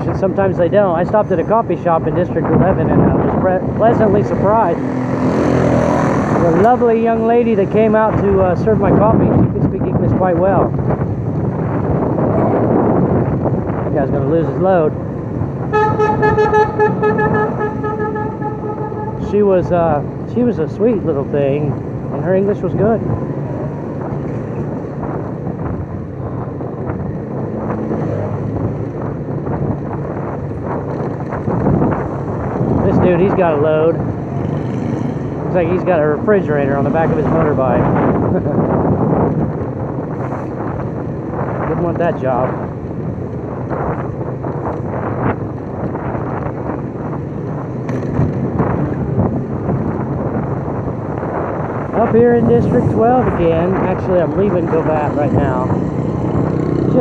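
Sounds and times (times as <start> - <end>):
motorbike running: 0.0 - 57.0
traffic: 0.0 - 57.0
wind buffeting microphone: 0.0 - 57.0.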